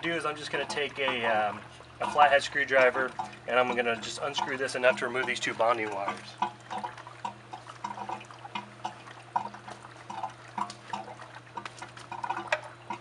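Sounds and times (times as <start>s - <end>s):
steady low hum: 0.0s - 13.0s
water dripping and trickling: 0.0s - 13.0s.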